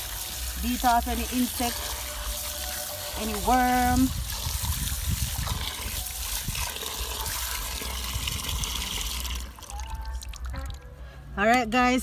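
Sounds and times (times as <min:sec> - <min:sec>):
tap water running into pot: 0:00.0 - 0:10.1.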